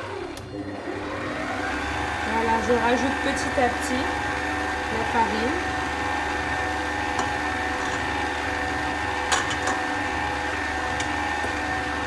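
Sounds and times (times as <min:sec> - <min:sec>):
stand mixer motor running: 0:00.0 - 0:12.0.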